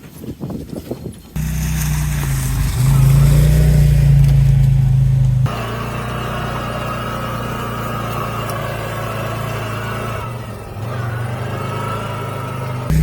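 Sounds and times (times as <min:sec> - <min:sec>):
engine humming: 0:01.4 - 0:13.0.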